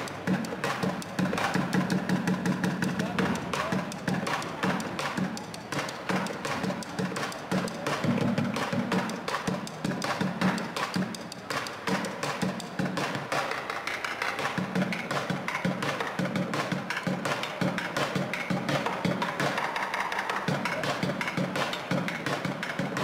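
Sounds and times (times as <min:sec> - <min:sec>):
drumming on plastic buckets: 0:00.0 - 0:23.0.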